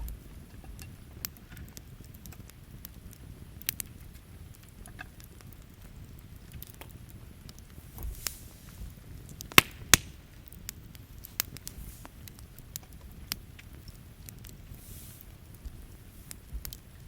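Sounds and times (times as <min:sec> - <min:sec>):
campfire crackling: 0:00.0 - 0:17.0
sharp pops of burning wood: 0:00.0 - 0:17.0.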